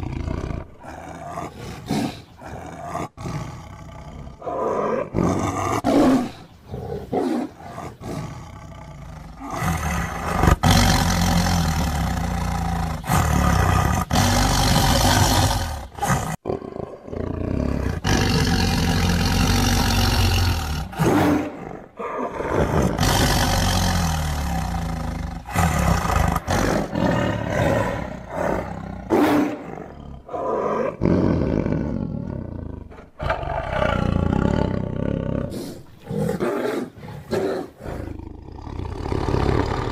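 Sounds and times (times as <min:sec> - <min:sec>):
tiger roaring: 0:00.0 - 0:39.9.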